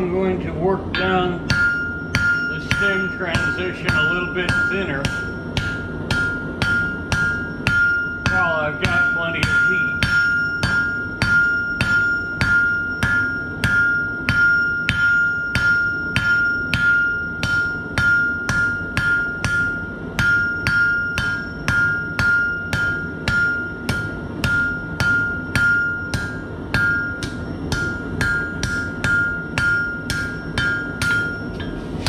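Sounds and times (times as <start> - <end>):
hammer striking steel on anvil: 0.9 - 32.0.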